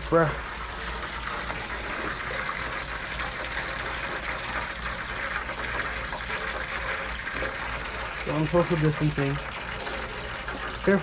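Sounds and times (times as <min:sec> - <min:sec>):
chicken wings sizzling in lard: 0:00.0 - 0:11.0.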